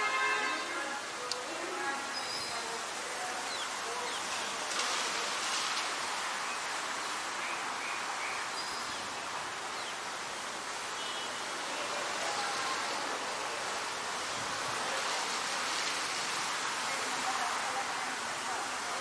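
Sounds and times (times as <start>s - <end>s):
rain falling on foliage: 0.0s - 19.0s.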